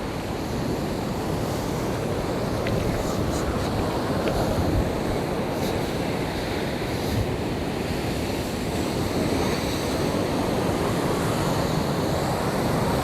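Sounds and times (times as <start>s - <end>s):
waves breaking on rocks: 0.0s - 13.0s
wind buffeting microphone: 0.6s - 11.8s.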